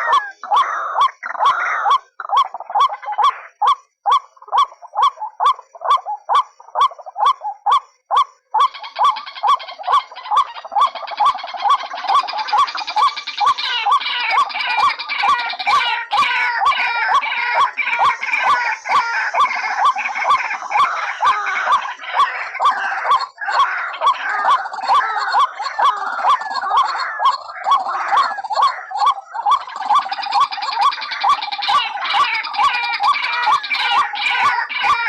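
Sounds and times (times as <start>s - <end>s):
waterhens calling harshly: 0.0s - 35.0s.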